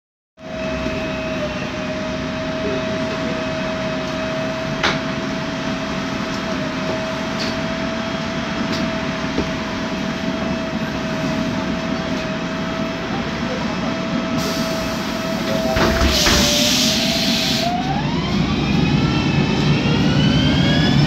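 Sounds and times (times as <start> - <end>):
bus engine idling: 0.4 - 17.9.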